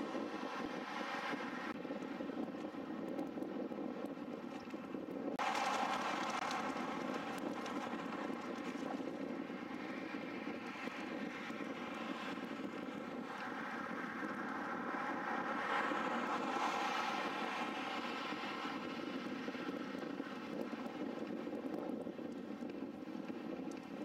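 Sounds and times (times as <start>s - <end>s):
steady mechanical drone: 0.0s - 24.0s
wind-like noise: 0.0s - 24.0s.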